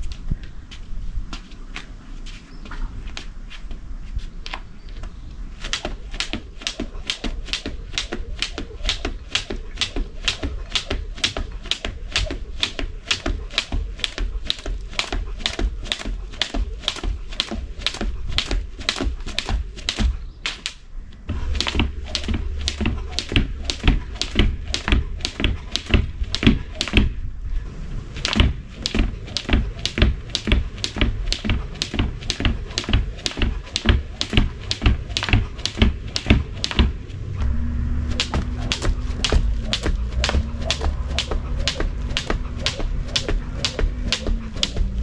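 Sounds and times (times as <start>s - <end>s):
jump rope slapping ground: 5.5s - 27.2s, 28.1s - 37.1s, 38.1s - 45.0s.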